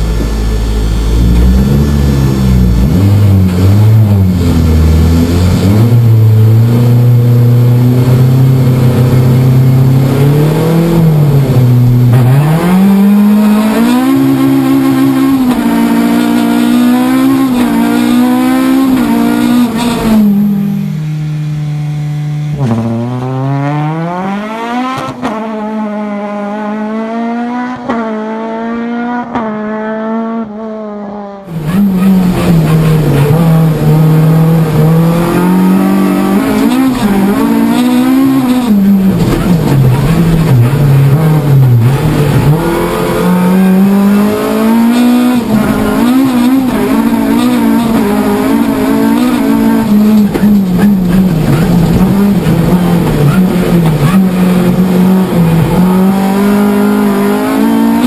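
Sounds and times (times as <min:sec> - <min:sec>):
car engine revving with gear changes: 0:00.0 - 0:58.0.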